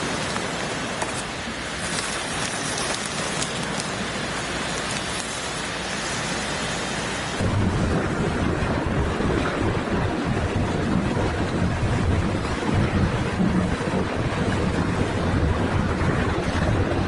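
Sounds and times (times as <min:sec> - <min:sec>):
rain pattering on tent fabric: 0:00.0 - 0:17.0
wind gusting against tent: 0:00.0 - 0:17.0.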